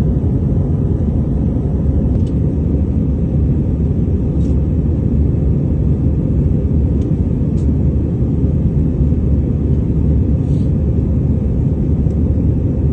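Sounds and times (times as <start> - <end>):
airliner engines rumbling: 0.0 - 12.9.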